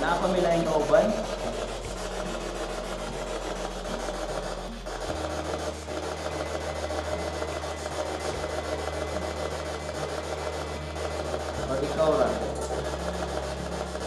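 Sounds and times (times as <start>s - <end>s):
scratchy static hiss: 0.0s - 14.0s.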